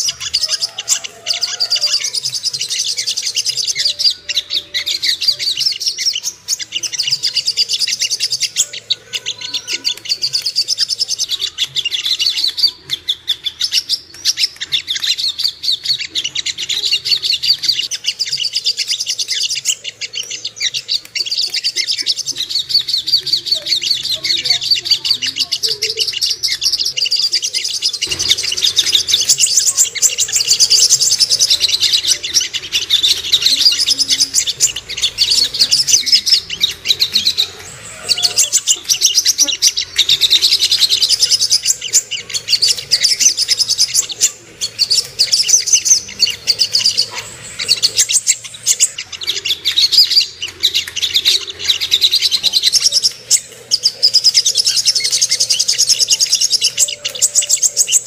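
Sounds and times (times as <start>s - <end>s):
bird singing chattering trills: 0.0s - 58.0s.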